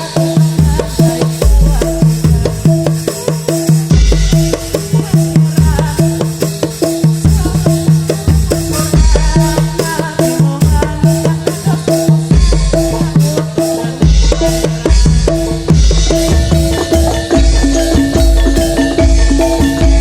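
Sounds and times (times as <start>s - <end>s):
deep bass drum beats: 0.0s - 20.0s
drums and pitched percussion: 0.0s - 20.0s.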